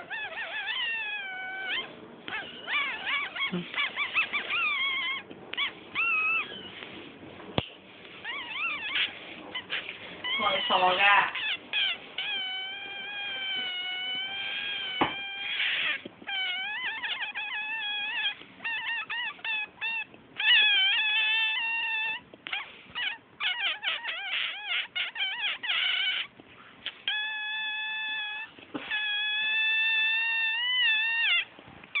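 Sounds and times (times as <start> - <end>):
high-pitched squeaky chirps: 0.0 - 6.8, 8.2 - 32.0.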